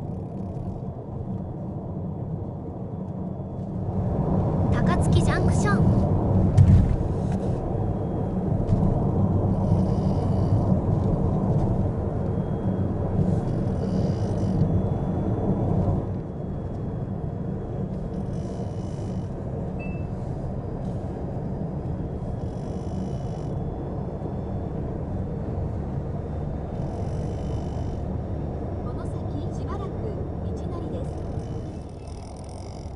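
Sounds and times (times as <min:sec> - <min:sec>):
road and tyre noise: 0:00.0 - 0:32.9.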